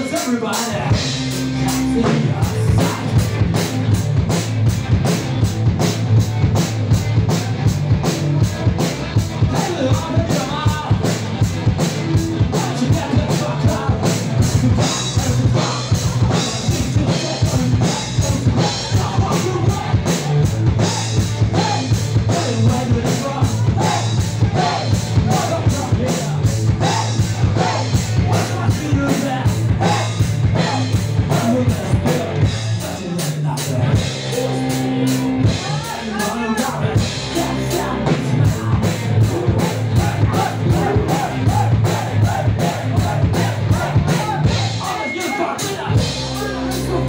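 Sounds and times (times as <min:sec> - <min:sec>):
driving drum beat: 0:00.0 - 0:47.0
rock band playing: 0:00.0 - 0:47.0.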